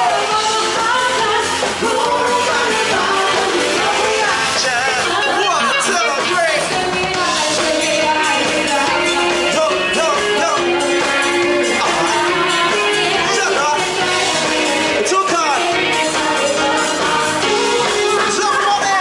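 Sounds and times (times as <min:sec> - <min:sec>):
band playing a song: 0:00.0 - 0:19.0
guitar: 0:00.0 - 0:19.0
person singing: 0:01.9 - 0:19.0.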